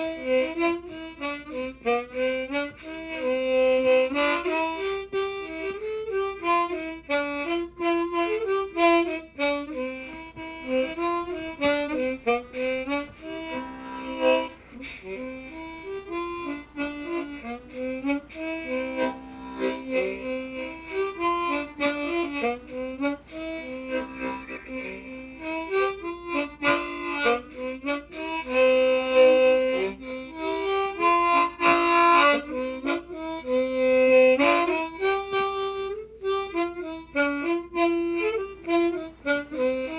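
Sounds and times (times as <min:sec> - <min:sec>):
harmonica playing dance tune: 0:00.0 - 0:39.9.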